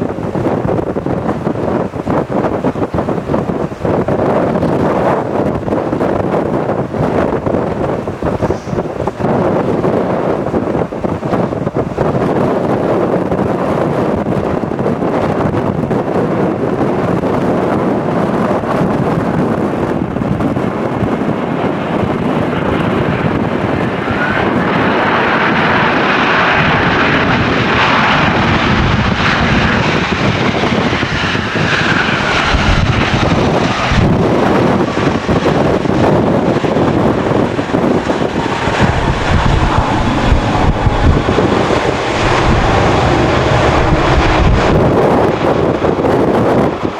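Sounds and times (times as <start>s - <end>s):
airliner engine passing: 0.0s - 15.4s, 16.6s - 46.9s
wind buffeting microphone: 0.0s - 46.9s.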